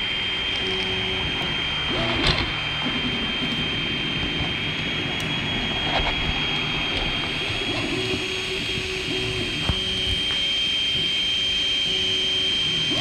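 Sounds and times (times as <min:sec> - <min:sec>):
fans whirring: 0:00.0 - 0:13.0
high whine: 0:00.0 - 0:13.0
stepper motors humming: 0:00.0 - 0:13.0.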